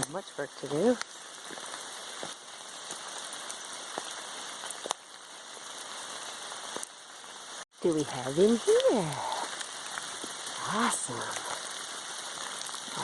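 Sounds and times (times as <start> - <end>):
sharp close raindrops: 0.0 - 13.0
steady rain falling: 0.0 - 13.0.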